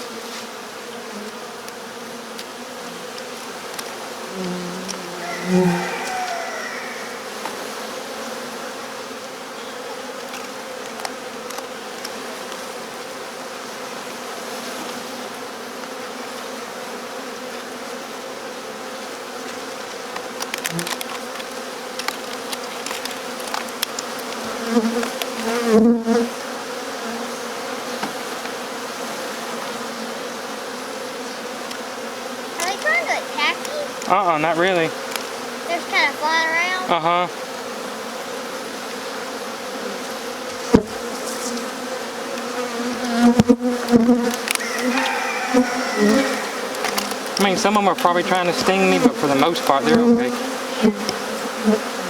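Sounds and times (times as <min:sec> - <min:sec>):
bee swarm buzzing: 0:00.0 - 0:52.0.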